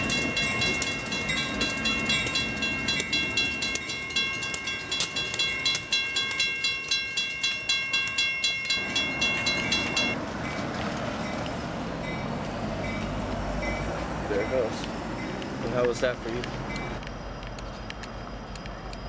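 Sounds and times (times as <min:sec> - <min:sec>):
railroad crossing bell clanging: 0:00.0 - 0:17.0
passing train rumble: 0:00.0 - 0:19.0.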